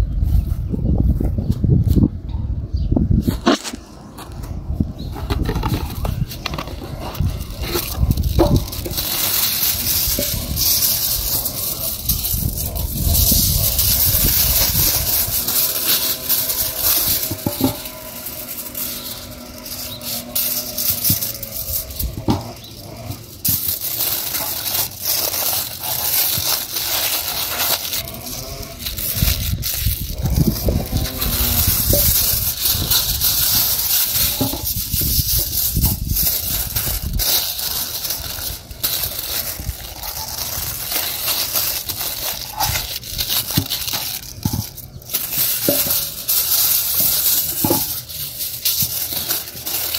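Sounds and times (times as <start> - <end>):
aluminium foil crackling: 3.3 - 49.9.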